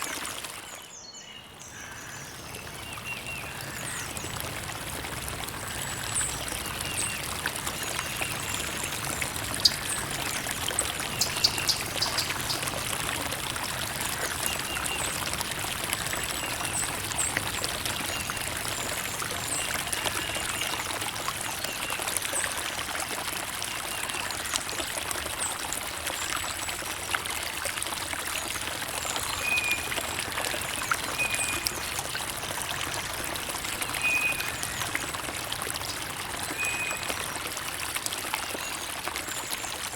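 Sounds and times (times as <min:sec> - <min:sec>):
creek water trickling and splashing: 0:00.0 - 0:39.9.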